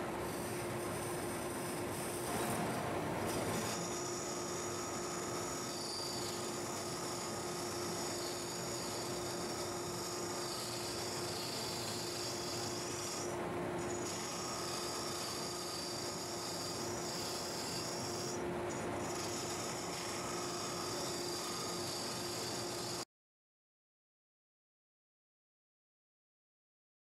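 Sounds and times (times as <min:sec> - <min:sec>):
lathe motor hum: 0:00.2 - 0:23.0
lathe tool scraping wood: 0:00.3 - 0:23.0.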